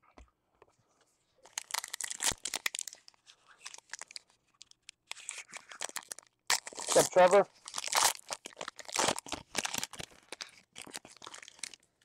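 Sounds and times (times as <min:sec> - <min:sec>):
foil card pack tearing and crinkling: 0:01.5 - 0:11.8.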